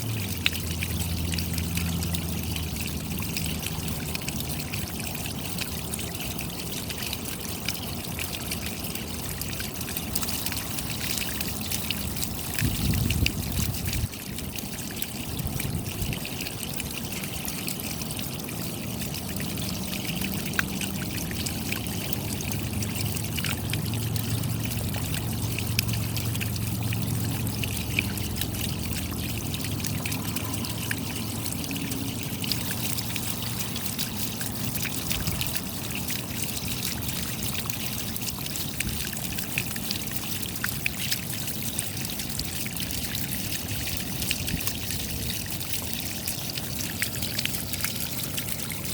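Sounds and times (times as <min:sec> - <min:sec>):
rain drops pattering: 0:00.0 - 0:48.9
water trickling and pouring: 0:00.0 - 0:48.9.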